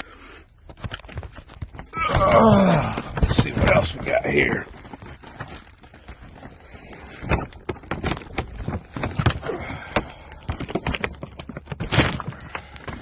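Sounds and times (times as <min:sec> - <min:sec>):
boxes rustling: 0:00.5 - 0:13.0
boxes knocking and clicking: 0:00.7 - 0:05.6, 0:07.2 - 0:13.0.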